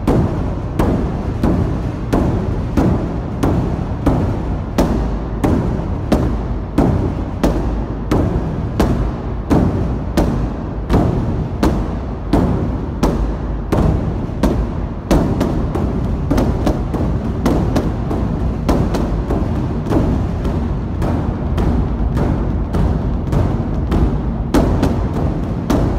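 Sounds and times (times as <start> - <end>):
barrel drums booming: 0.0 - 25.9
constant low rumble: 0.0 - 25.9.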